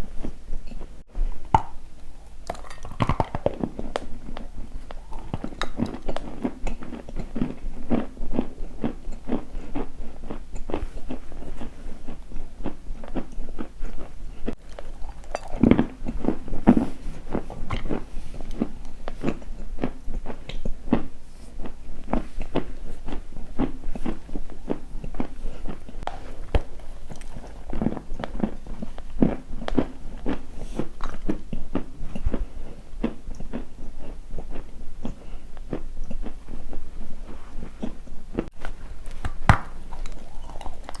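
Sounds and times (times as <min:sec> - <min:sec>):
crunching and chewing: 0:02.0 - 0:41.0.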